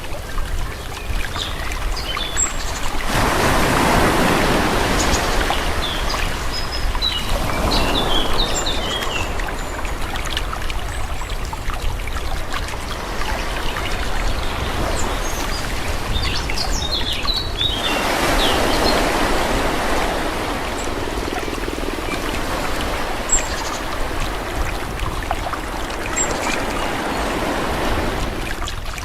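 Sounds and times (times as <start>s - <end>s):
small waves washing in: 0.0s - 29.0s
birds chirping: 0.3s - 28.8s.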